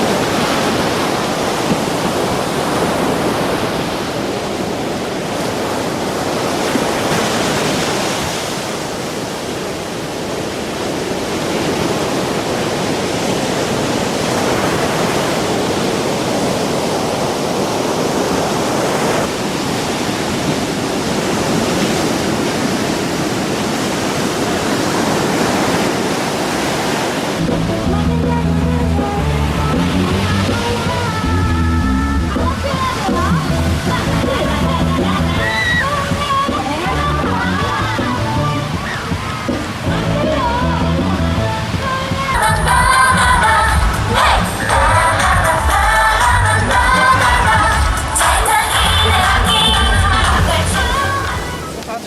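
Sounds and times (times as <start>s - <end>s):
waves breaking on shore: 0.0s - 52.0s.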